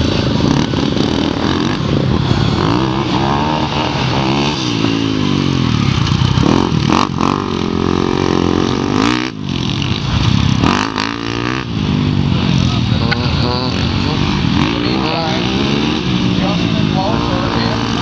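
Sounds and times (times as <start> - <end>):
quad engines revving: 0.0 - 18.0.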